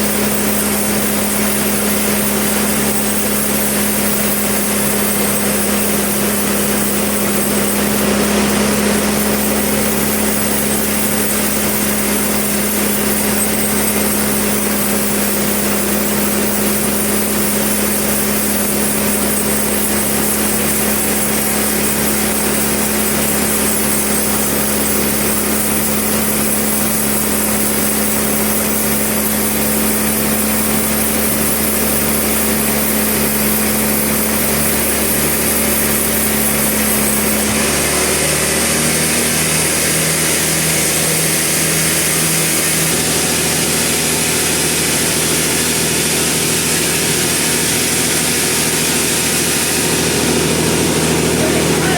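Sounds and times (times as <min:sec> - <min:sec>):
sawmill machinery motor hum: 0:00.0 - 0:51.9.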